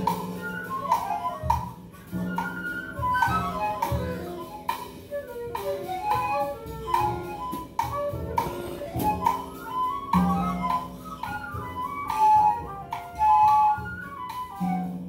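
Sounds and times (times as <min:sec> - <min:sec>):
drum kit and cymbal hits: 0:00.0 - 0:15.0
pan flute melody: 0:00.0 - 0:15.0.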